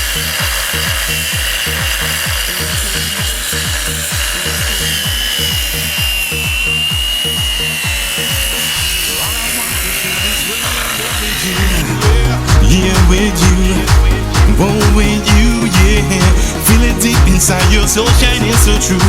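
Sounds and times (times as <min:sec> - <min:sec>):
pop music with steady beat: 0:00.0 - 0:19.0
power tool rasping: 0:00.0 - 0:19.0.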